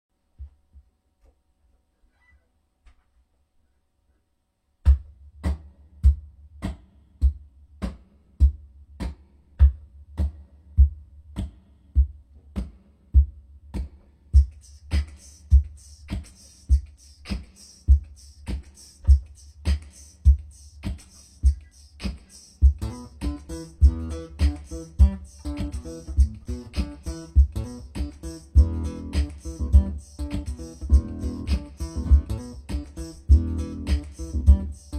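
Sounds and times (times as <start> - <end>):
drum beat with bass kick: 4.9 - 34.9.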